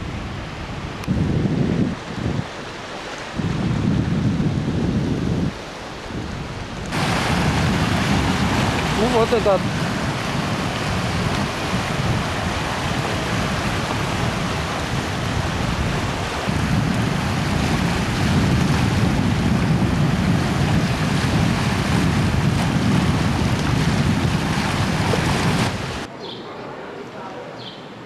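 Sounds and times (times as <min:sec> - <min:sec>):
surf breaking over rocks: 0:00.0 - 0:26.1
wind rumbling on microphone: 0:00.0 - 0:26.1.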